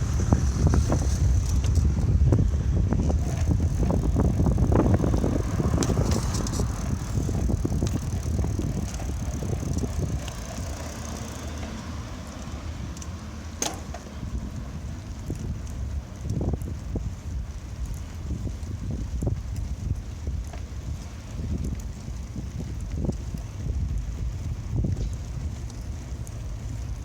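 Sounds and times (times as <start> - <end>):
bicycle road rumble: 0.0 - 27.0
wind buffeting microphone: 0.0 - 27.0
small rattles and clicks: 0.6 - 27.0.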